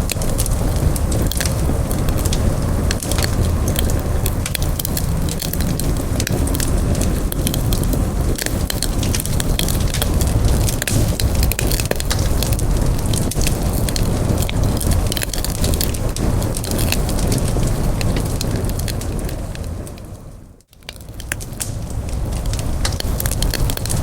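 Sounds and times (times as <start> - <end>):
campfire crackling and popping: 0.0 - 24.0
steady low rumble: 0.0 - 24.0.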